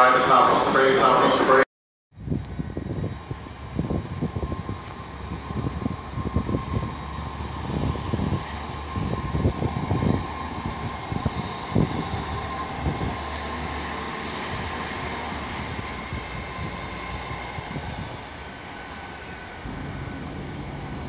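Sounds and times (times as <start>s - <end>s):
diesel train running: 2.4s - 21.0s.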